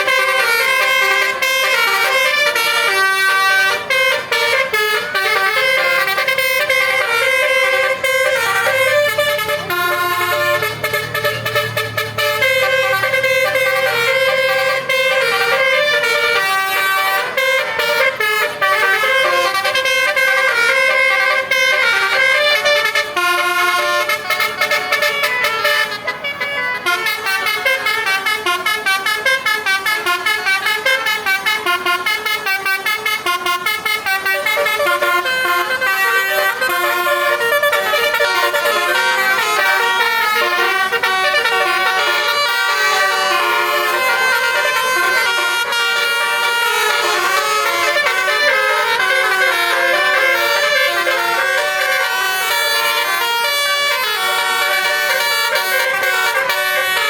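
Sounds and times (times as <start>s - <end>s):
musical bus horn jingles: 0.0s - 57.0s.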